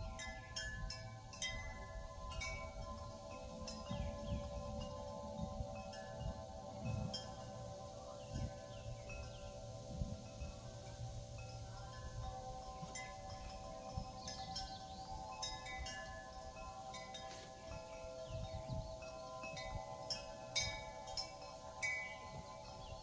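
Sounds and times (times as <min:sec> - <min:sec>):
low wind rumble: 0:00.0 - 0:23.0
wind bell ringing: 0:00.0 - 0:23.0.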